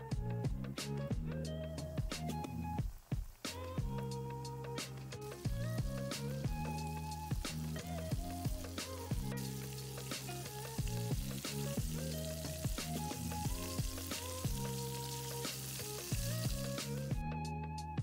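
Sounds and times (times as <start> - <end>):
background music: 0.0 - 18.0
chicken frying in hot oil: 2.0 - 17.3.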